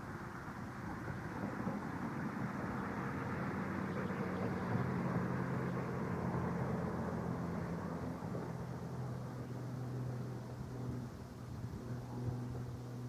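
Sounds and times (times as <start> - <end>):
constant background hiss: 0.0 - 13.0
low mechanical drone: 0.6 - 13.0.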